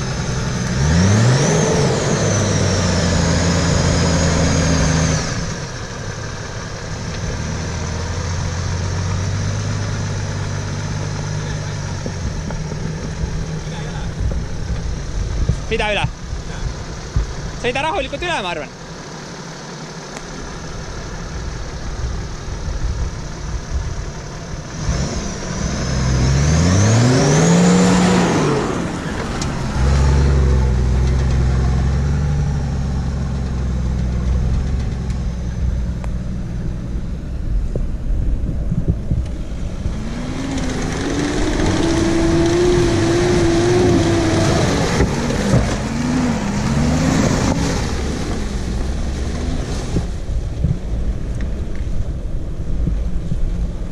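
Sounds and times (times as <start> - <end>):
off-road engines revving: 0.0 - 37.7, 38.8 - 53.9.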